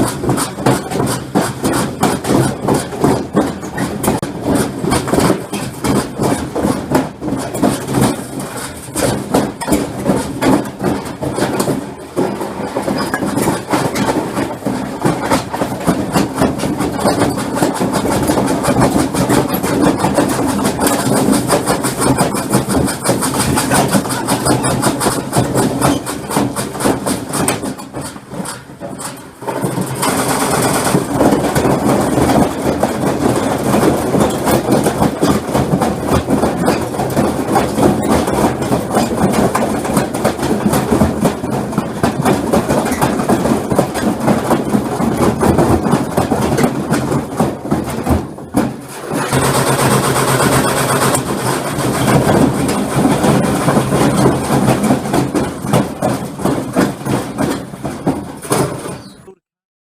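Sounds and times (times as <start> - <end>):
washing machine banging and rattling: 0.0 - 59.4.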